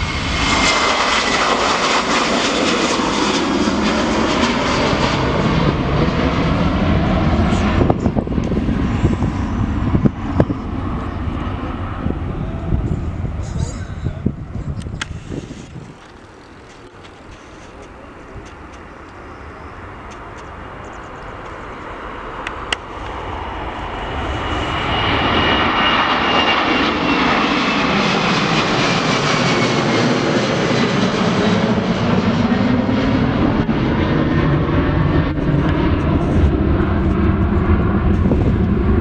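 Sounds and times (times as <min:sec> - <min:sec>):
jet airliner flying past: 0:00.0 - 0:39.0.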